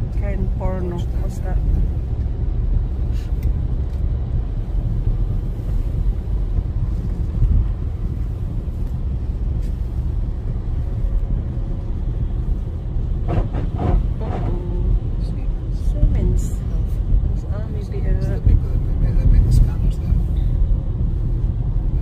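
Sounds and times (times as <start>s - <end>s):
car engine rumbling: 0.0s - 22.0s
tyres on a wet road: 0.0s - 22.0s.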